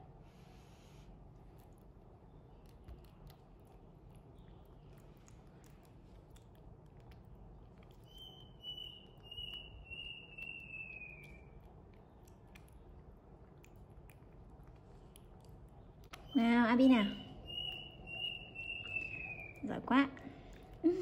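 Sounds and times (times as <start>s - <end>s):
smacking clicks of eating: 1.2s - 21.0s.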